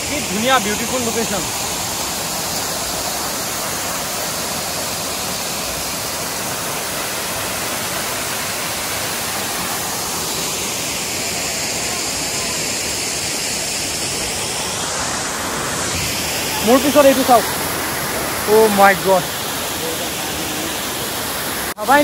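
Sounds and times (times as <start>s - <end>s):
waterfall pouring: 0.0s - 22.0s.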